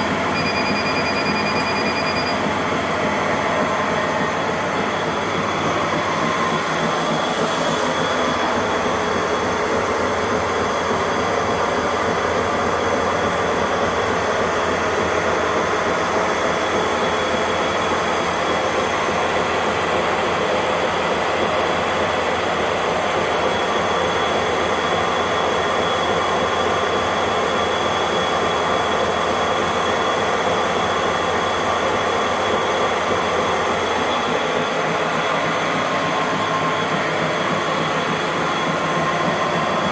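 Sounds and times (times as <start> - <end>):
treadmill motor whirring: 0.0 - 39.9.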